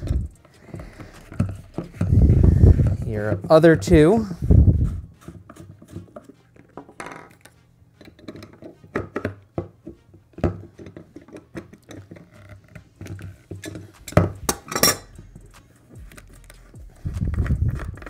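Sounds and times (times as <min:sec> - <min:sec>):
pump parts clicking and clinking: 0:00.0 - 0:02.2, 0:05.8 - 0:18.0.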